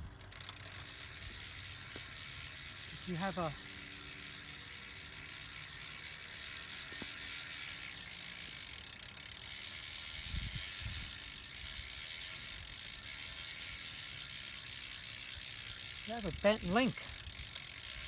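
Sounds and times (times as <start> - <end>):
bicycle chain running over gears: 0.2 - 18.0.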